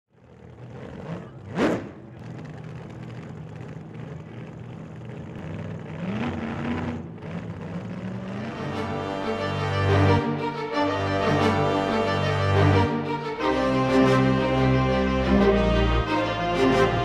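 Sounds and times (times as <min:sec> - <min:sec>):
vehicle engine revving: 0:00.2 - 0:17.0.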